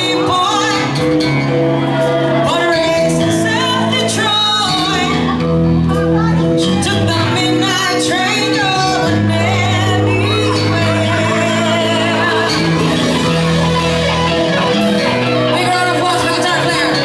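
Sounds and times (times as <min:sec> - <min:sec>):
live pop-rock band playing: 0:00.0 - 0:17.0
person singing: 0:00.0 - 0:17.0.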